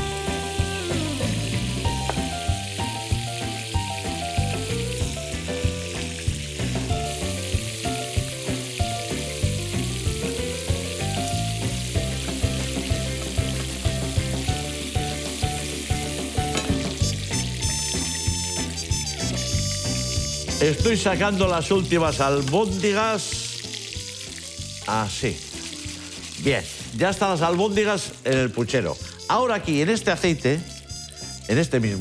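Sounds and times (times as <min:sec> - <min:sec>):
background music with beat: 0:00.0 - 0:28.2, 0:29.2 - 0:31.6
meatballs sizzling in oil: 0:00.0 - 0:32.0.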